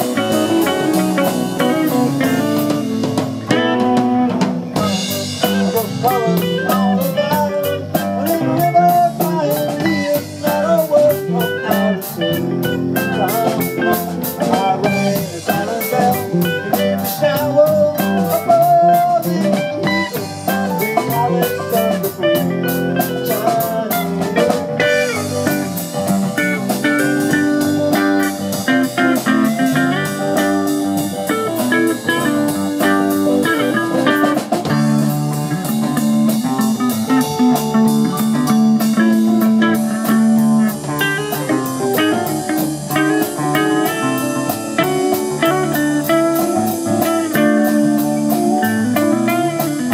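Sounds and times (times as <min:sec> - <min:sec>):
drum kit with fast cymbal beat: 0:00.0 - 0:49.9
electric bass: 0:00.0 - 0:49.9
electric guitars: 0:00.0 - 0:49.9.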